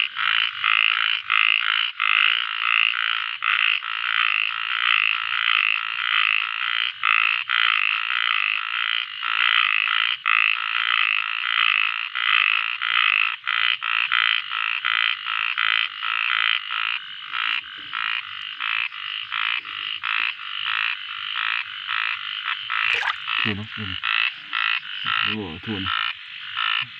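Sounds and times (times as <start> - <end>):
frogs calling: 0.0 - 26.9.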